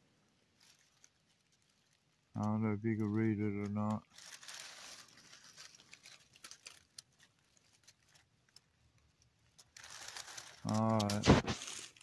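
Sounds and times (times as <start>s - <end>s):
faint rustling: 0.0s - 12.0s.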